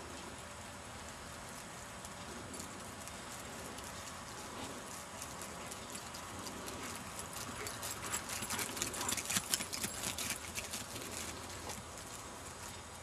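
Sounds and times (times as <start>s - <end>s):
dog paws crunching through stubble: 0.0s - 13.0s.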